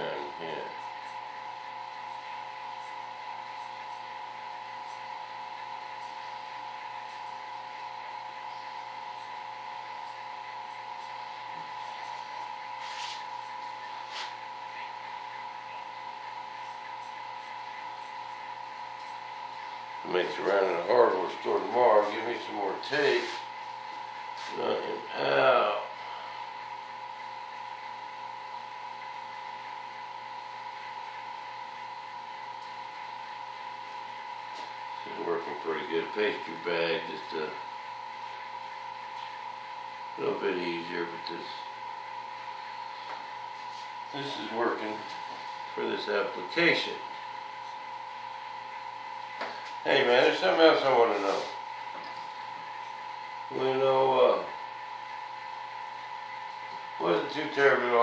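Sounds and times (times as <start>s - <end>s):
machine hum with high whine: 0.0s - 58.0s.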